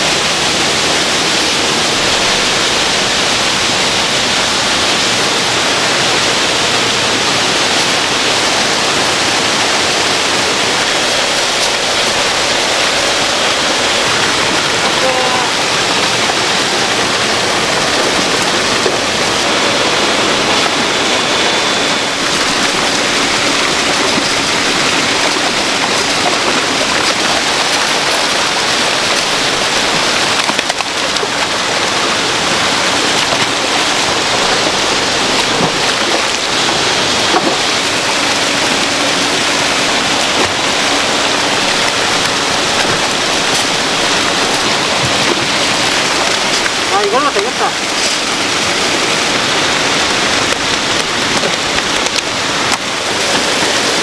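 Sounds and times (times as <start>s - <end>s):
water jetting from a pipe: 0.0s - 54.0s
water rushing and splashing: 0.0s - 54.0s.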